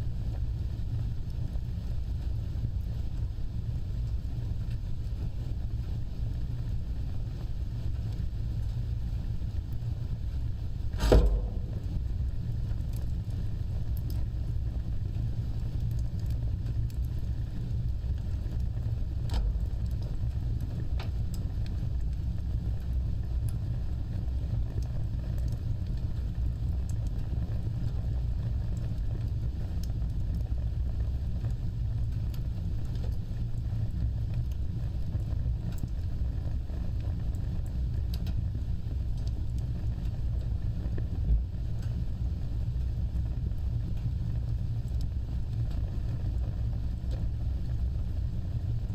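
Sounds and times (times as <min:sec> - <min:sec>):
fire crackles and pops: 0:00.0 - 0:48.9
fire flames rumbling: 0:00.0 - 0:48.9.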